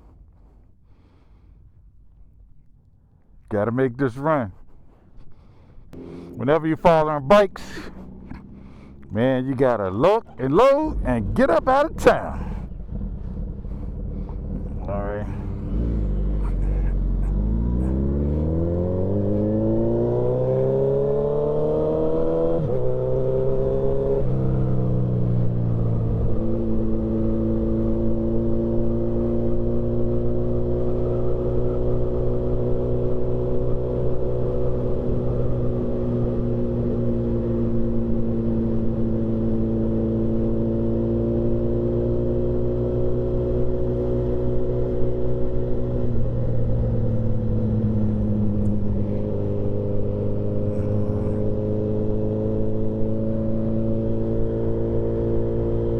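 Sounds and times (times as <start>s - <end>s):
motorcycle engine accelerating: 5.4s - 55.9s.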